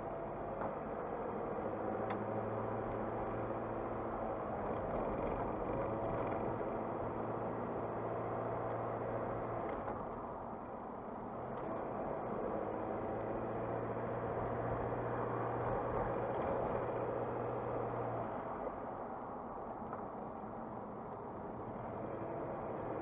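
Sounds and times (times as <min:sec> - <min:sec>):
low engine hum: 0:00.0 - 0:23.0
tyre and road noise: 0:00.0 - 0:23.0.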